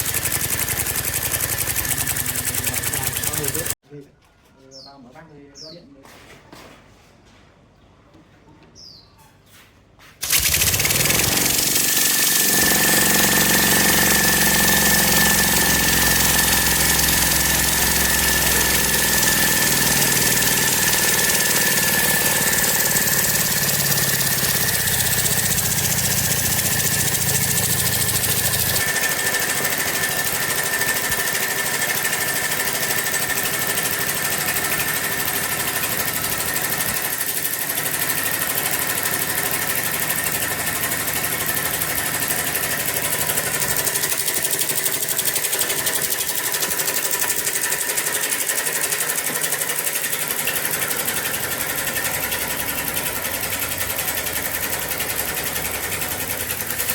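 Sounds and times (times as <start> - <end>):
steam engine running: 0.0 - 3.8, 10.2 - 56.9.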